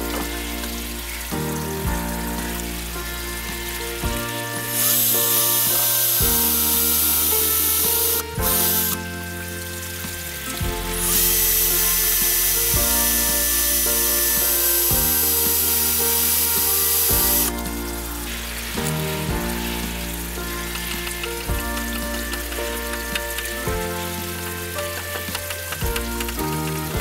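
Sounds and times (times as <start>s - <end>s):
electric power tool whining: 0.0s - 27.0s.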